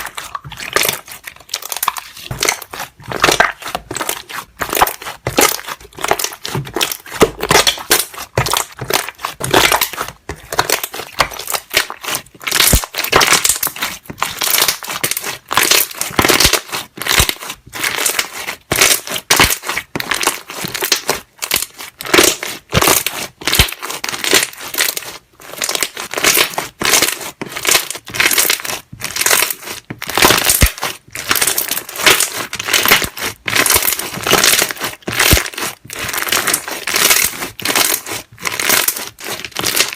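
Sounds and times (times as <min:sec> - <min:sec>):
slime squelching and popping: 0:00.0 - 0:39.9.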